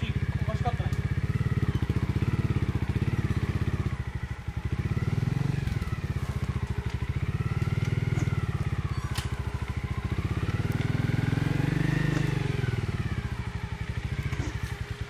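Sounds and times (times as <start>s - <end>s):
motorcycle engine idling: 0.0s - 15.0s
wavering engine whine: 0.0s - 15.0s.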